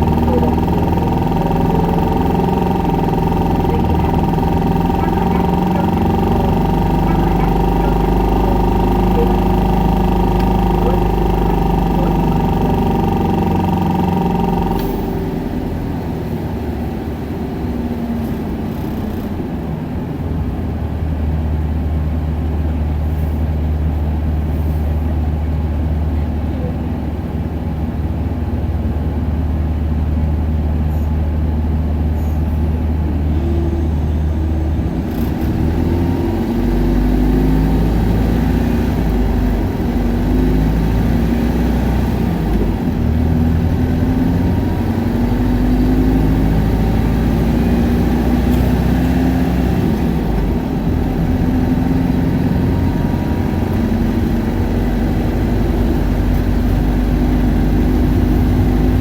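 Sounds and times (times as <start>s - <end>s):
bus engine idling and revving: 0.0s - 59.0s.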